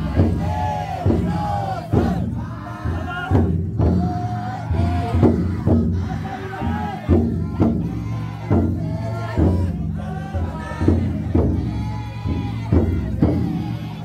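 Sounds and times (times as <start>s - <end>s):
crowd chanting in unison: 0.0s - 14.0s
large drum beaten heavily: 0.0s - 14.0s.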